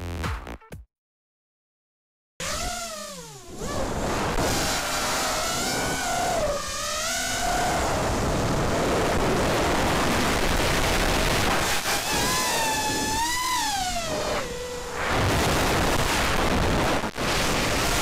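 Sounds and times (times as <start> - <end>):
quadcopter motors whining: 2.4 - 18.0.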